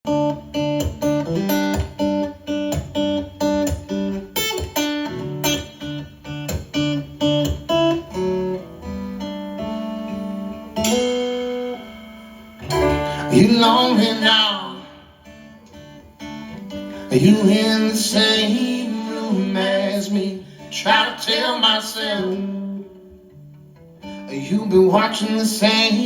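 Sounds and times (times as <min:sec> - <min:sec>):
guitar playing chords: 0:00.1 - 0:25.0.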